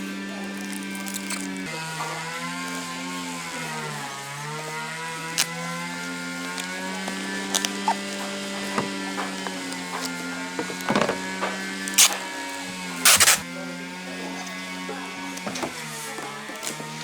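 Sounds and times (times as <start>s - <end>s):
power tool motor humming: 0.0s - 17.0s.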